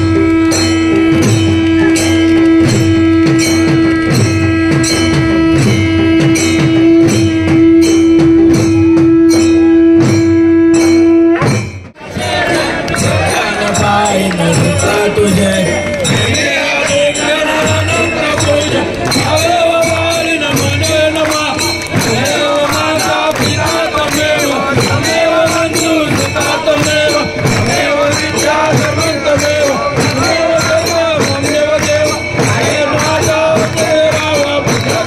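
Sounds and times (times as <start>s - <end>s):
jingling percussion: 0.0s - 35.0s
steady drum beat: 0.0s - 35.0s.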